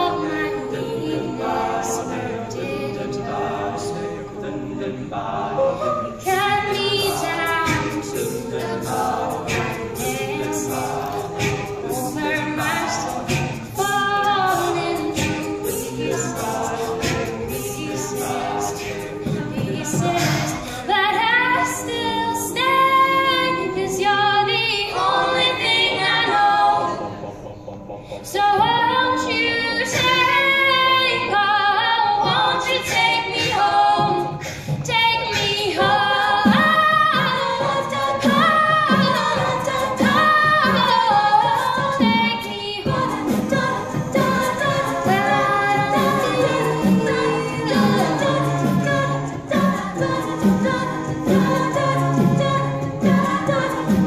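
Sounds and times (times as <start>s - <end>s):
choir of backing voices: 0.0s - 54.0s
low pulsing backing vocals: 0.0s - 54.0s
woman singing lead: 5.8s - 27.4s, 28.1s - 54.0s.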